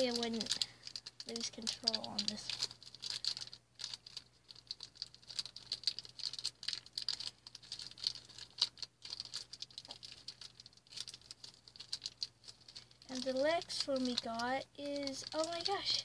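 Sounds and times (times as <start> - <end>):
plastic packaging crinkling: 0.0 - 16.0
small clicks and scratches: 0.0 - 16.0.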